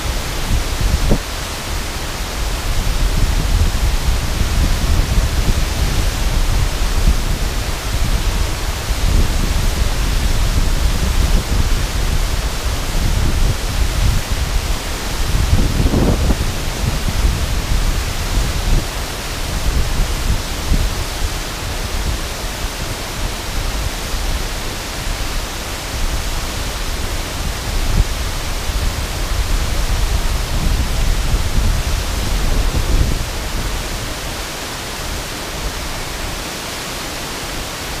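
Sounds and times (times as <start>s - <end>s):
low rumble of falling water: 0.0s - 38.0s
water rushing over rocks: 0.0s - 38.0s.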